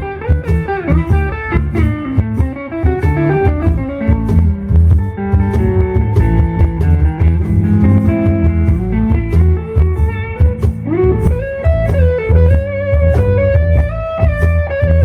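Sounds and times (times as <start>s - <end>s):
bass: 0.0s - 15.0s
drums: 0.0s - 15.0s
electric guitar lead: 0.0s - 15.0s.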